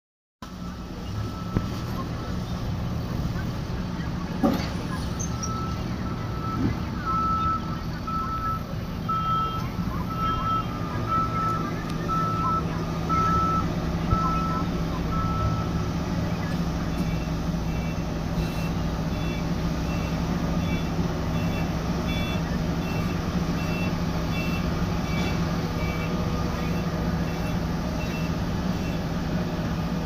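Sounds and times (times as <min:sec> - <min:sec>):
diesel engine running: 0:00.4 - 0:30.0
warning alarm beeping: 0:04.9 - 0:29.1.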